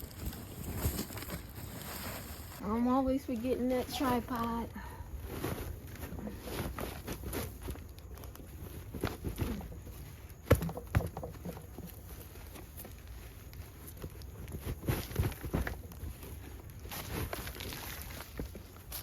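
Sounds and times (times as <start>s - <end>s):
handling rustling: 0.0s - 19.0s.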